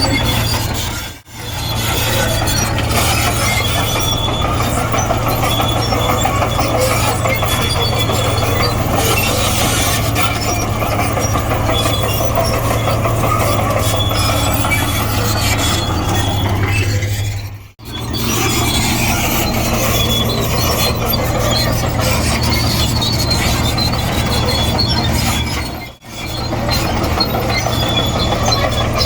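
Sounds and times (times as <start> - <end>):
bulldozer diesel engine droning: 0.0 - 29.0
steel tracks squealing and clattering: 0.0 - 29.0.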